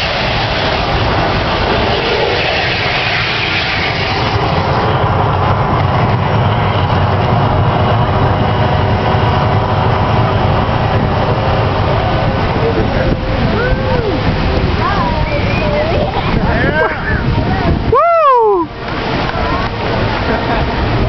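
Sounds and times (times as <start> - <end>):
volcano show rumbling roar: 0.0 - 21.0.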